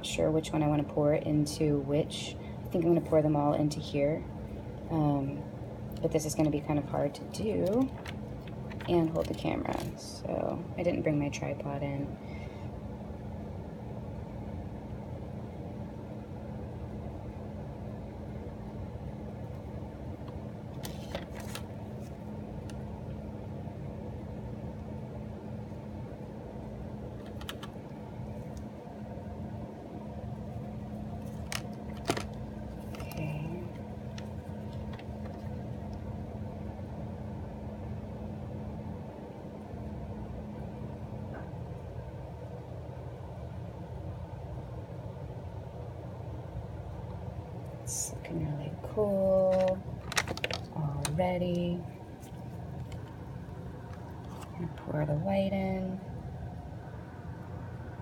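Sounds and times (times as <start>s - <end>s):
air conditioner humming: 0.0s - 58.0s.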